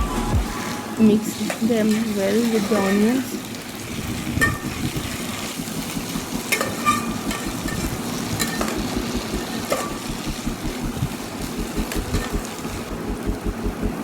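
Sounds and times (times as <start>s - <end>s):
onions sizzling in oil: 0.4s - 13.8s.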